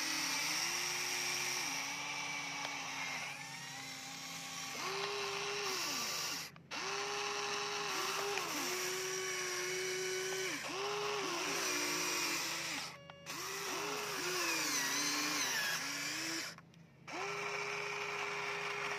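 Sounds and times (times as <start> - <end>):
electric motors whining: 0.0 - 18.9.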